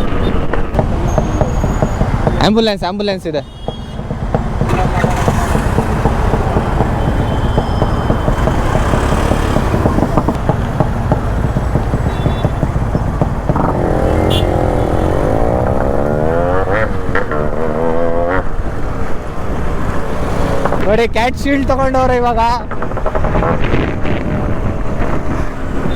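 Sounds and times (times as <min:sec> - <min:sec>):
motorcycle exhaust revving: 0:00.7 - 0:02.8, 0:03.6 - 0:19.1, 0:22.6 - 0:25.9.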